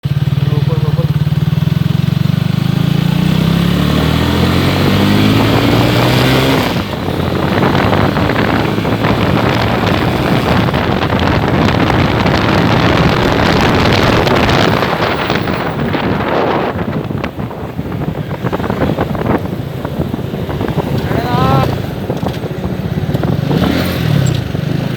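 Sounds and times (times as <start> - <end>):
motorcycle engine pulling: 0.0 - 24.9
wind rushing on microphone: 2.4 - 24.9.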